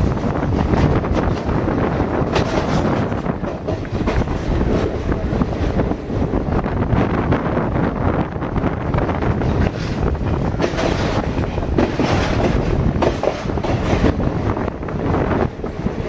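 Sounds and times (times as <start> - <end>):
train rumble and clatter: 0.0 - 16.0
wind buffeting microphone: 0.0 - 16.0.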